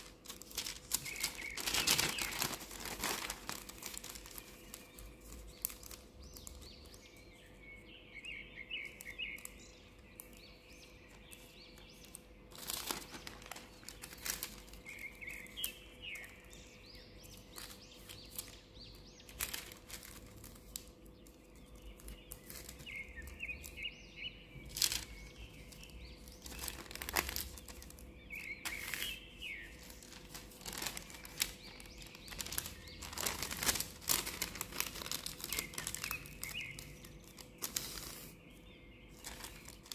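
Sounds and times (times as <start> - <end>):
paper crinkling: 0.0 - 7.4, 8.8 - 23.9, 24.6 - 39.9
birds chirping: 0.0 - 39.9.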